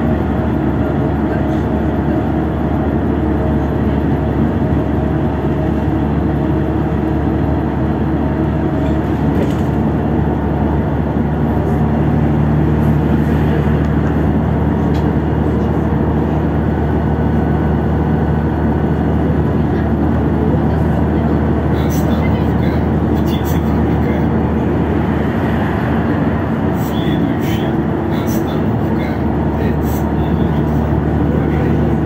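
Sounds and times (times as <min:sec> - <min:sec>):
bus engine drone: 0:00.0 - 0:32.0
road and tyre rumble: 0:00.0 - 0:32.0.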